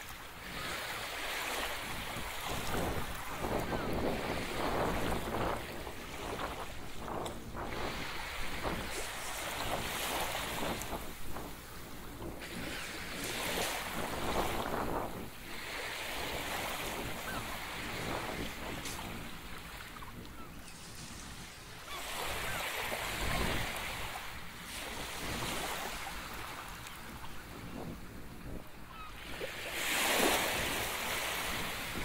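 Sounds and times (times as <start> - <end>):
waves washing onto beach: 0.0 - 32.0
wind rumbling on microphone: 0.0 - 32.0.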